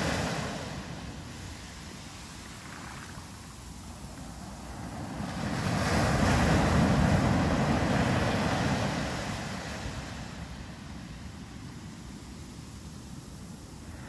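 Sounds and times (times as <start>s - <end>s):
wave breaking on sandy beach: 0.0s - 14.0s.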